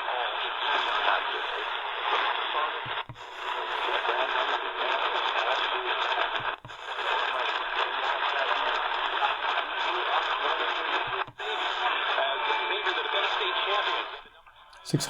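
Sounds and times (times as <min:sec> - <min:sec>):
radio static and hiss: 0:00.0 - 0:15.0.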